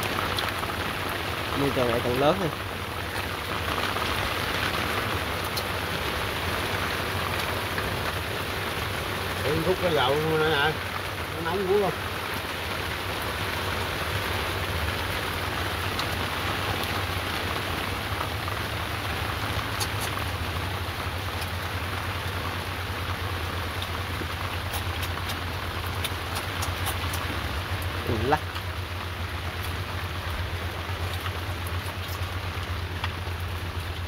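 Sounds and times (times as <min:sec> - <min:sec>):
boat engine hum: 0:00.0 - 0:34.0
heavy rain on a boat: 0:00.0 - 0:34.0.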